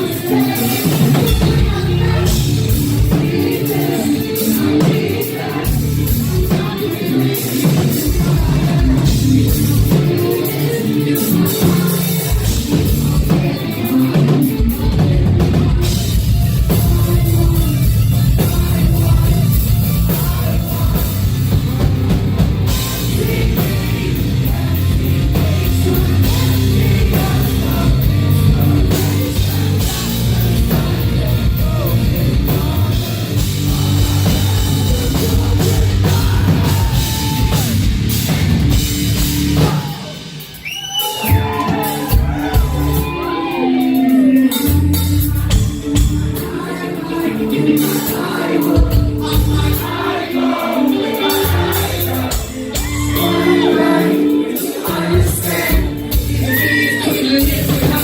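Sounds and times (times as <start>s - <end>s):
person singing: 0.0s - 38.3s, 41.0s - 58.0s
heavy drums: 0.0s - 58.0s
live rock band: 0.0s - 58.0s.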